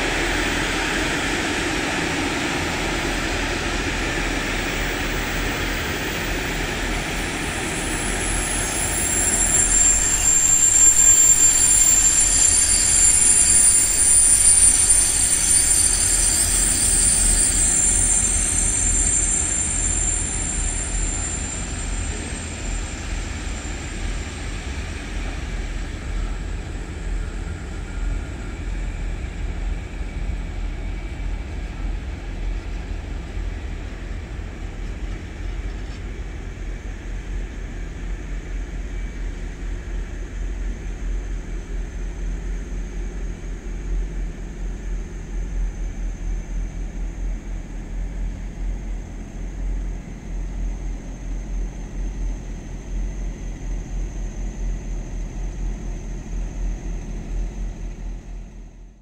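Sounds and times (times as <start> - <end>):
faint high-pitched whines: 0.0 - 58.9
train rumbling by: 0.0 - 59.0.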